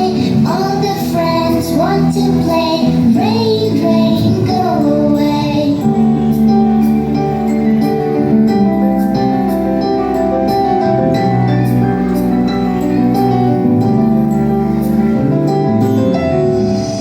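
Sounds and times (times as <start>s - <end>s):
instrumental nursery music: 0.0s - 17.0s.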